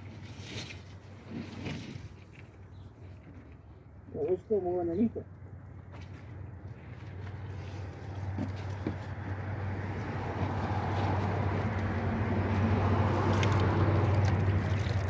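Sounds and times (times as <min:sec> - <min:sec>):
vehicle engine humming: 0:02.0 - 0:15.0.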